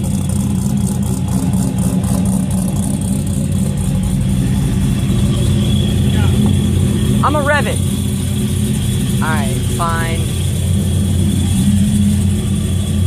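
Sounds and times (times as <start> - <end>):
car engine idling loudly: 0.0 - 13.0.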